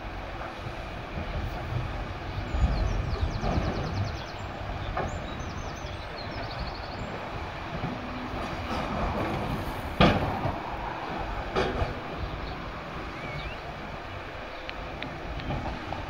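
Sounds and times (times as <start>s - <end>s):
heavy machinery rumbling: 2.6s - 16.0s.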